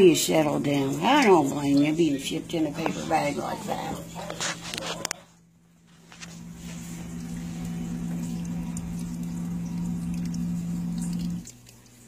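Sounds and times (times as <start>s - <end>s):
misting pump humming: 0.0s - 12.0s.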